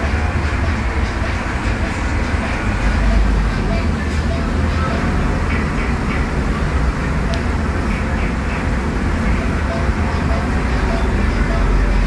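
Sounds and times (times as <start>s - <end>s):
bus diesel engine running: 0.0s - 12.0s
road and drivetrain noise: 0.0s - 12.0s.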